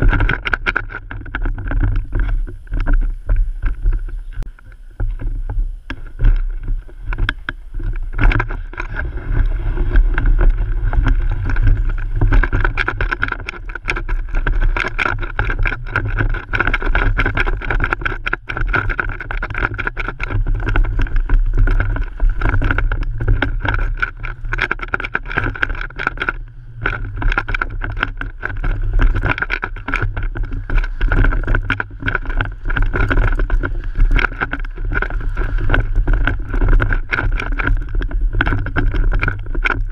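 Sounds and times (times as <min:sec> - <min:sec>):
bike rattling and knocking: 0:00.0 - 0:39.9
wind rumble on microphone: 0:00.0 - 0:39.9.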